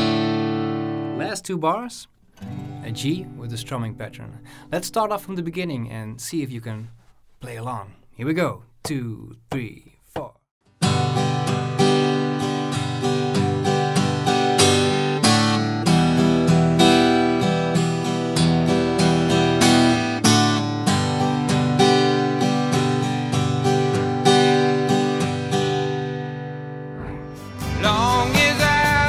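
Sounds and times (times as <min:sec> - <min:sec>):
acoustic guitar strumming: 0:00.0 - 0:05.8, 0:10.6 - 0:29.0.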